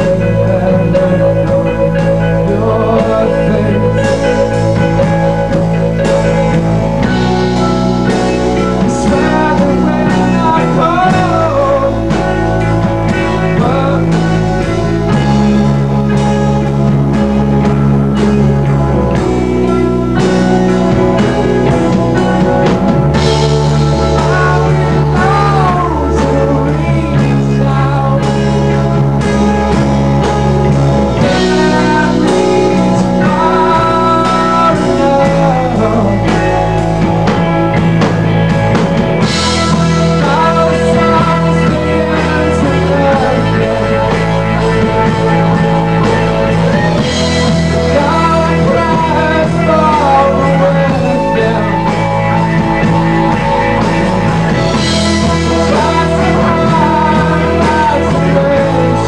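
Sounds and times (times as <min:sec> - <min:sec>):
bass guitar: 0:00.0 - 0:59.0
drums: 0:00.0 - 0:59.0
electric guitars: 0:00.0 - 0:59.0.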